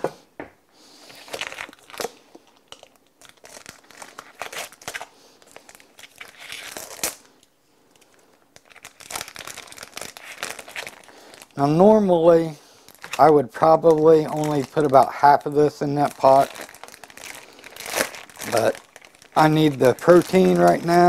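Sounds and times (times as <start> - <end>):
plastic wrapper crinkling and tearing: 1.0 - 21.0.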